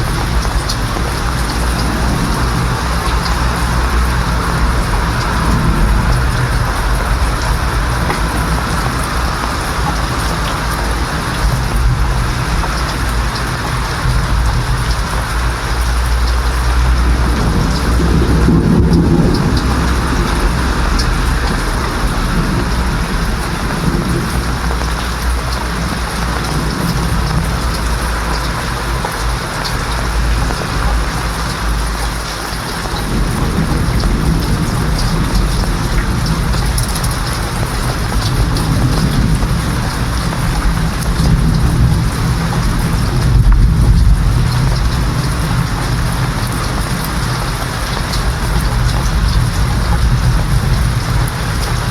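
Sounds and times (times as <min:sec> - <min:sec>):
heavy rain falling: 0:00.0 - 0:51.9
thunder rumbling: 0:00.0 - 0:51.9.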